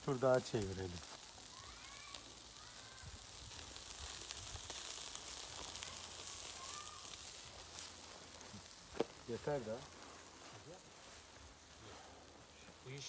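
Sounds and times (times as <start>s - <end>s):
meat sizzling on a charcoal grill: 0.0s - 13.0s.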